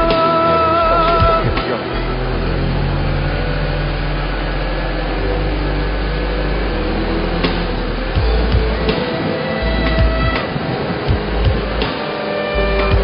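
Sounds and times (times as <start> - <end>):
suv engine running hard: 0.0 - 13.0
wheels spinning in mud: 0.0 - 13.0.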